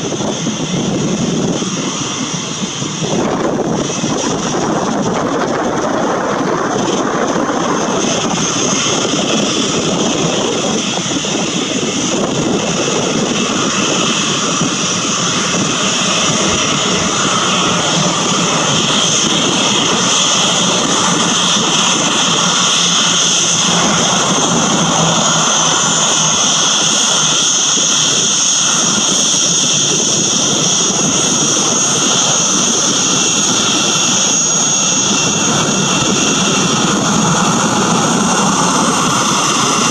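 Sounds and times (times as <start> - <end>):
jet engines at taxi power: 0.0 - 39.9.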